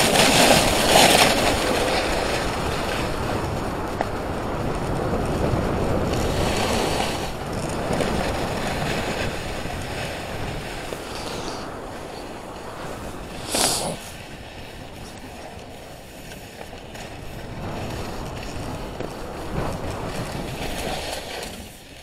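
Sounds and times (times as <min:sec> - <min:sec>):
snowboard sliding over snow: 0:00.0 - 0:22.0
wind rushing over microphone: 0:00.0 - 0:22.0.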